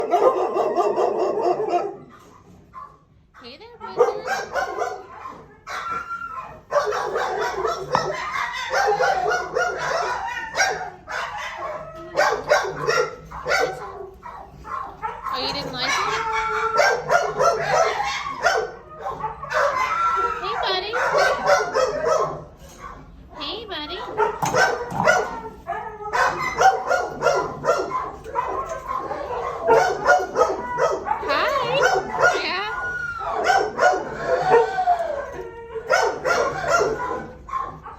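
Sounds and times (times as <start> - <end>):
dogs barking and yelping: 0.0 - 37.9.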